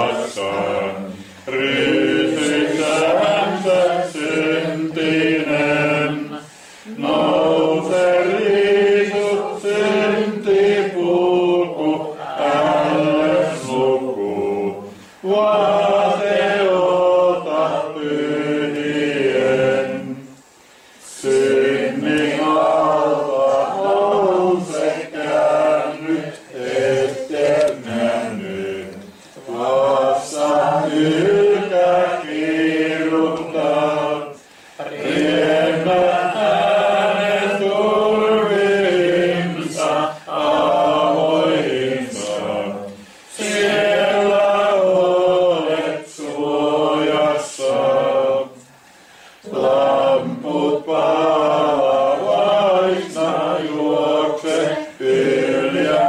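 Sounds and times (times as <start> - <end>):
group singing a hymn unaccompanied: 0.0 - 56.0.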